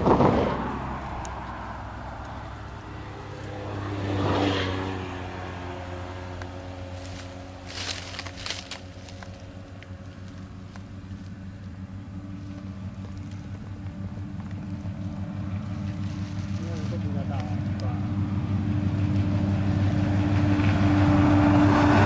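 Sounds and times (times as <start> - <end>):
engine running at low speed: 0.0 - 22.0
vehicle passing close by: 0.0 - 22.0.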